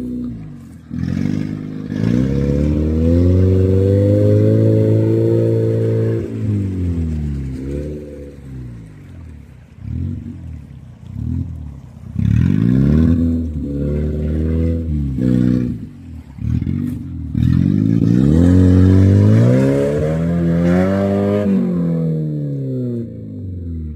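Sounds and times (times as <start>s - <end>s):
engine revving hard: 0.0s - 9.0s, 12.1s - 23.1s
water splashing: 0.0s - 22.7s.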